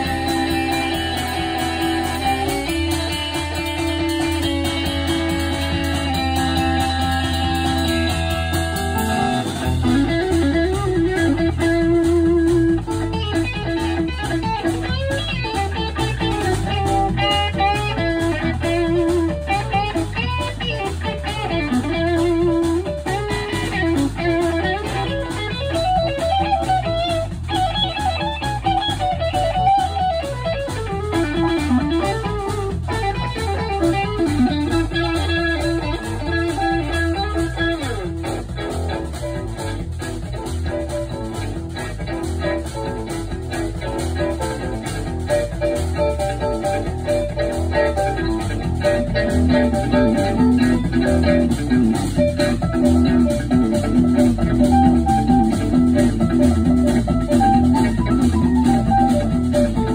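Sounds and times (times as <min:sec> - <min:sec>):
bass guitar: 0:00.0 - 0:59.9
drums: 0:00.0 - 0:59.9
electric guitar lead: 0:00.0 - 0:59.9
electric piano: 0:00.0 - 0:59.9.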